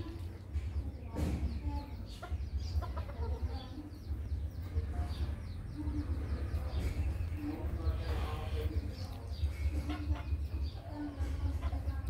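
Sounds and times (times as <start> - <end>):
chickens clucking: 0.0 - 12.0
steady low rumble: 0.0 - 12.0.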